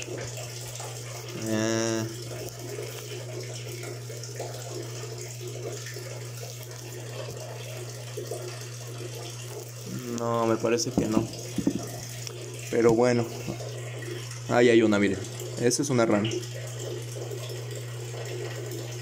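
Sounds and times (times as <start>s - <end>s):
faint trickle of running water: 0.0s - 19.0s.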